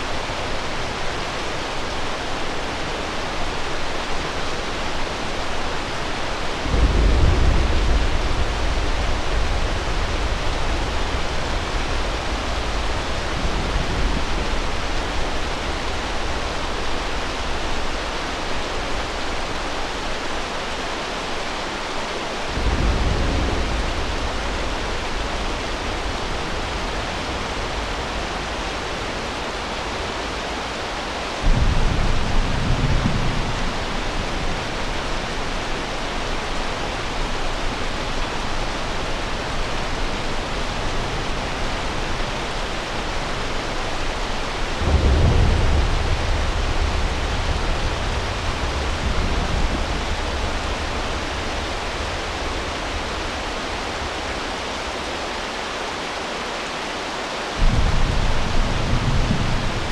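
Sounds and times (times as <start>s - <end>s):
heavy rain hiss: 0.0s - 59.9s
thunder rolling: 6.4s - 20.0s, 22.4s - 55.0s, 57.6s - 59.9s.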